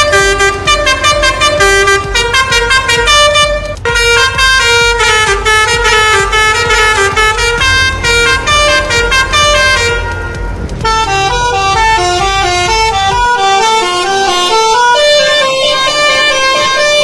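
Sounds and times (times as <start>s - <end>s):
low rumble: 0.0s - 17.0s
musical bus air horn: 0.0s - 17.0s.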